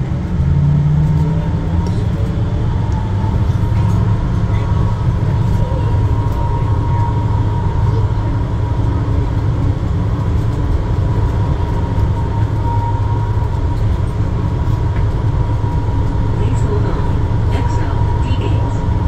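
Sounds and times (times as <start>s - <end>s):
constant whine: 0.0s - 19.0s
metro train rumbling in tunnel: 0.0s - 19.0s.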